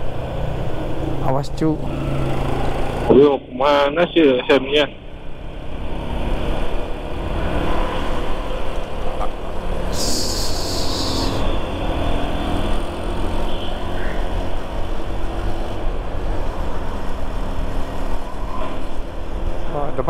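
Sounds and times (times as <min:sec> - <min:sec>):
motorcycle engine: 0:00.0 - 0:03.8, 0:04.9 - 0:19.8
road rumble: 0:00.0 - 0:20.0.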